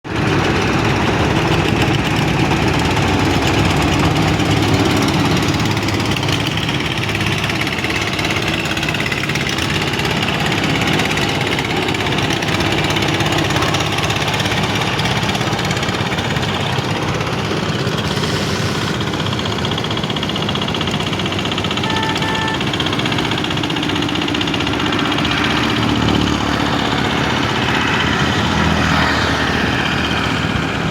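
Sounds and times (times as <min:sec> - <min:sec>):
boat engine running: 0:00.1 - 0:30.9.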